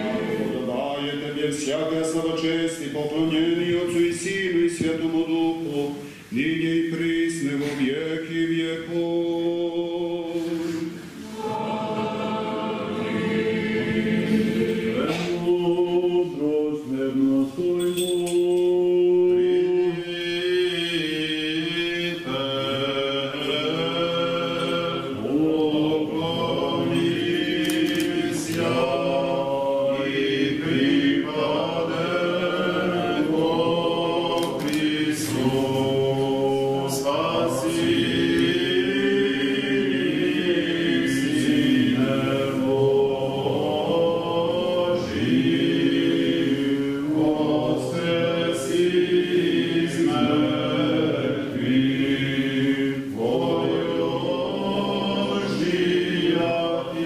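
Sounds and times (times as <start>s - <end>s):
church choir chanting: 0.0s - 57.0s.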